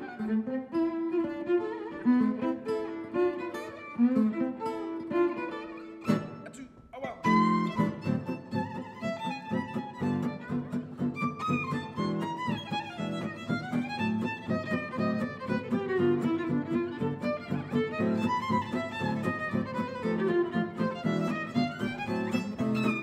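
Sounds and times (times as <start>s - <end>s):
violin melody: 0.0s - 6.4s, 7.2s - 23.0s
acoustic guitar strumming: 0.0s - 6.6s, 7.2s - 23.0s.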